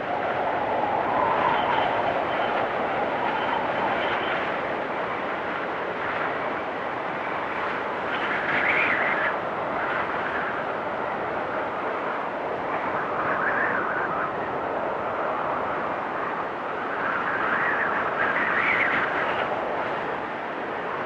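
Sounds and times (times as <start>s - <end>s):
storm wind blowing: 0.0s - 21.0s.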